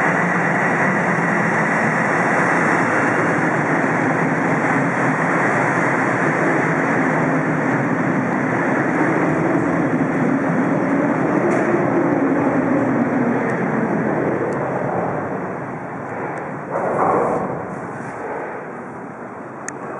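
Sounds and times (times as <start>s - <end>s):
subway train rumbling: 0.0s - 19.9s.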